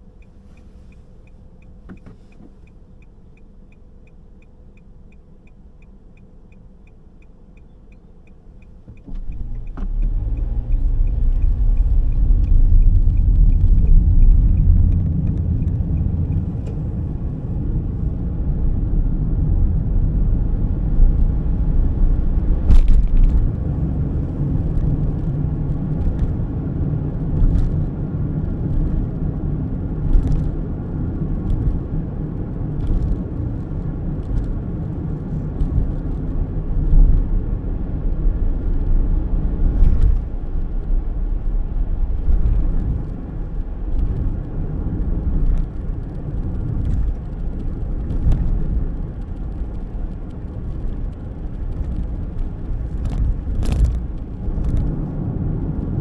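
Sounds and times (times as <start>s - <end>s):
car cabin road and engine rumble: 0.0s - 56.0s.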